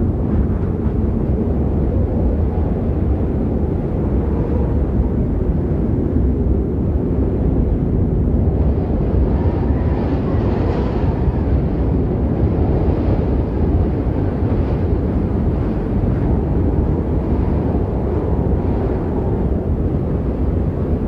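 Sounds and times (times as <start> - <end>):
low rumbling snowstorm wind: 0.0 - 21.0.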